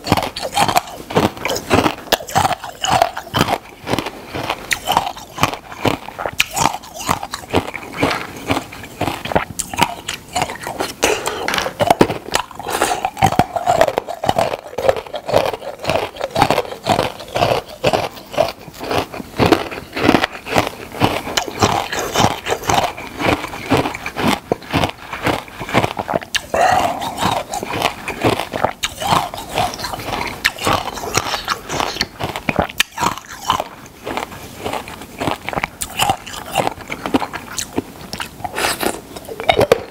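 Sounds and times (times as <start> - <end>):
crunching ice: 0.0 - 39.9.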